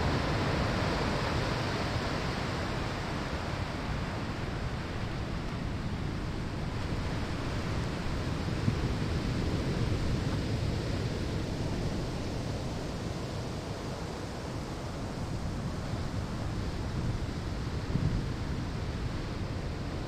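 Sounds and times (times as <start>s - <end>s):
ocean waves washing onto shore: 0.0s - 20.0s.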